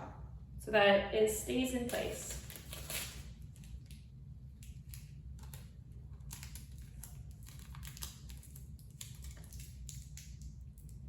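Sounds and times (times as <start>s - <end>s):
steady low hum: 0.0s - 11.0s
hands crinkling paper and tape: 1.8s - 11.0s.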